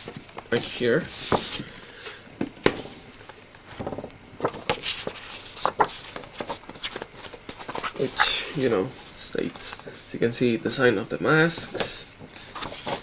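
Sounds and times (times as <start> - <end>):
record sleeves being handled: 0.0 - 1.8, 2.4 - 10.0, 11.4 - 13.0.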